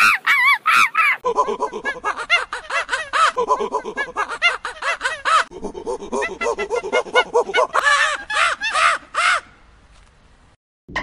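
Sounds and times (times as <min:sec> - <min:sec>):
animals calling: 0:00.0 - 0:01.2, 0:01.8 - 0:09.6.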